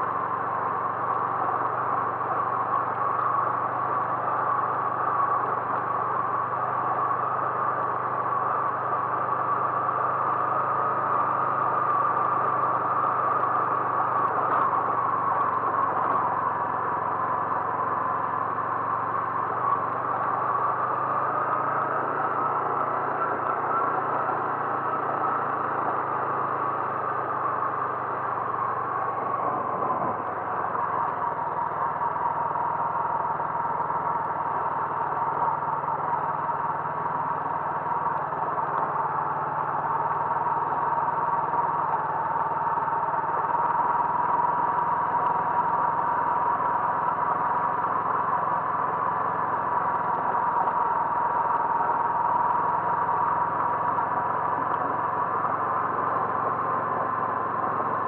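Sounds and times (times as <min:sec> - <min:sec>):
vehicle engine running with whine: 0:00.0 - 0:58.0.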